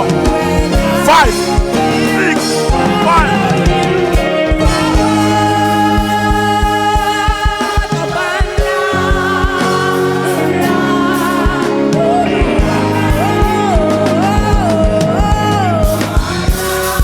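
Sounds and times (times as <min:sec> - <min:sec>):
lead voice with vibrato: 0:00.0 - 0:16.9
drum beat: 0:00.0 - 0:17.0
gospel choir singing: 0:00.0 - 0:17.0.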